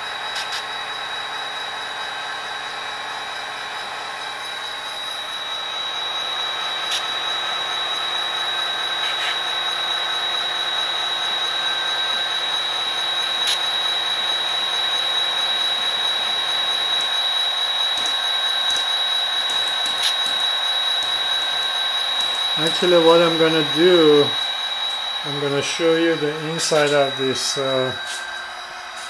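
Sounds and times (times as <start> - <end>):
diesel engine sound from small speaker: 0.0 - 29.0
electric motor whine: 0.0 - 29.0.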